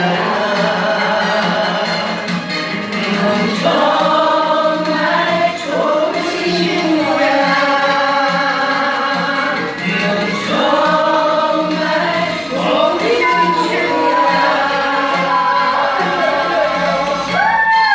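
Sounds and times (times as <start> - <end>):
song with steady beat: 0.0 - 17.9.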